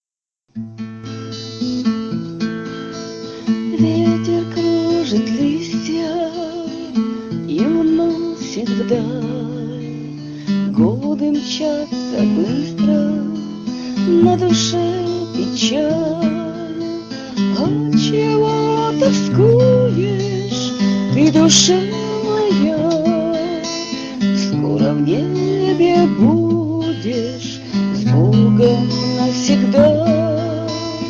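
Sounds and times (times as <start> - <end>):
acoustic guitar strumming: 0.5 - 31.0.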